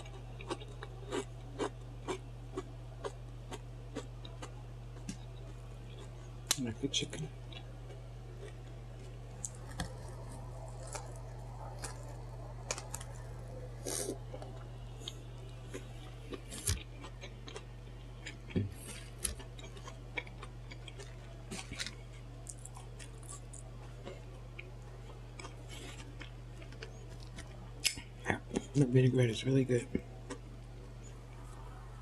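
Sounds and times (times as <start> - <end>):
chewing sandwich: 0.0 - 6.6, 7.2 - 28.8, 29.9 - 31.8
low electrical hum: 0.0 - 32.0.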